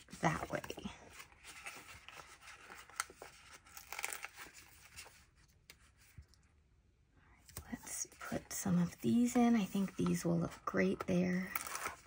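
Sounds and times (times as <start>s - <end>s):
paper rustling and crinkling: 0.0s - 6.4s, 7.6s - 12.0s.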